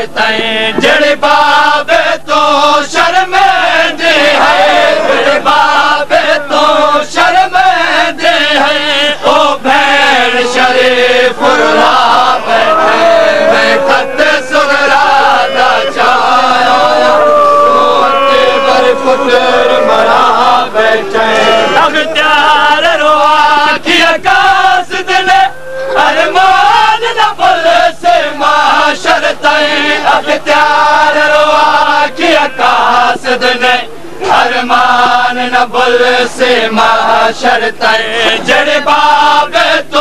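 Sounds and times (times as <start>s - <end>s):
men chanting a lament: 0.0s - 40.0s.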